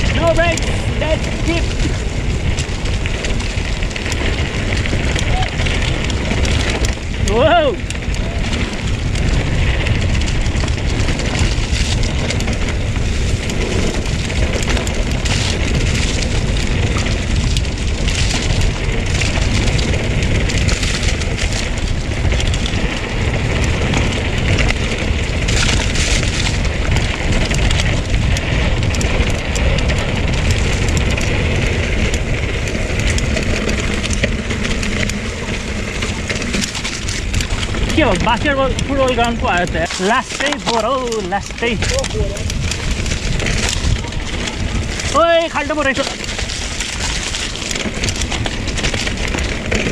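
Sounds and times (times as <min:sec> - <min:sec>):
bike rattling: 0:00.0 - 0:49.9
tyres crunching on dirt: 0:00.0 - 0:49.9
wind buffeting microphone: 0:00.0 - 0:49.9.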